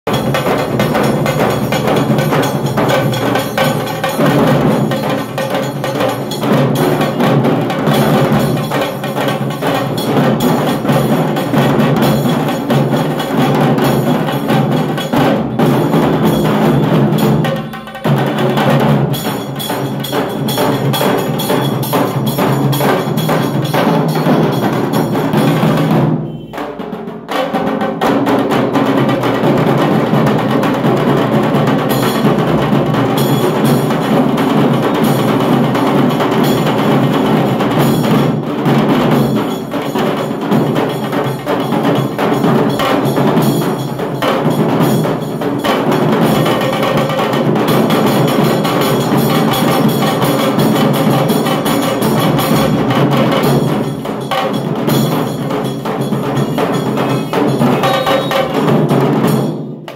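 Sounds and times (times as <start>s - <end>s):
barrel drums beaten with sticks: 0.1s - 59.9s.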